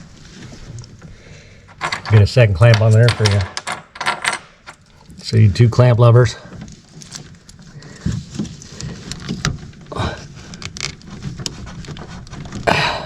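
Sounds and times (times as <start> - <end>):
scrapes and rustles: 0.0 - 5.2, 6.2 - 13.0.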